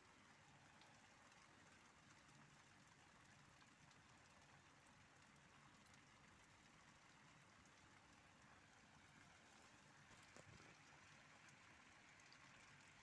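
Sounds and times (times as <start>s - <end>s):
light rain hiss: 0.0s - 13.0s.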